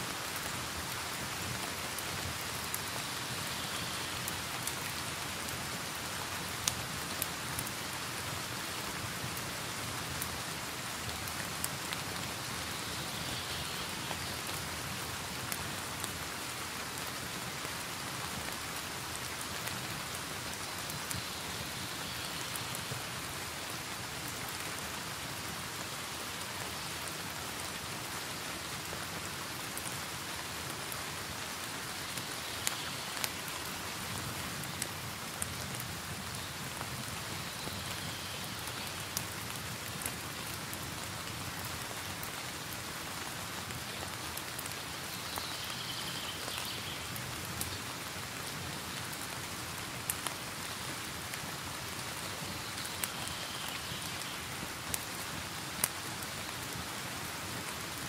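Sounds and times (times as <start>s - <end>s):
steady rain falling: 0.0s - 58.0s
fireplace fire crackling: 0.1s - 28.0s, 28.7s - 58.0s.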